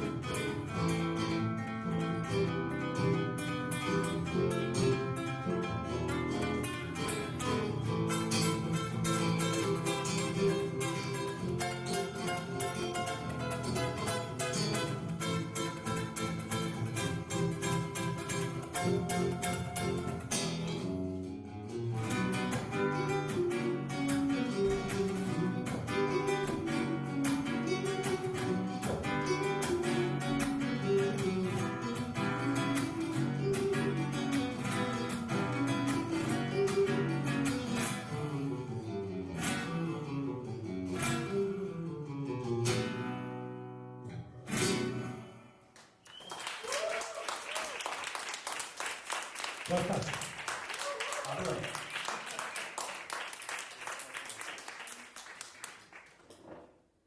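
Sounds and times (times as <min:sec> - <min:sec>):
plucked string instrument: 0:00.0 - 0:45.7.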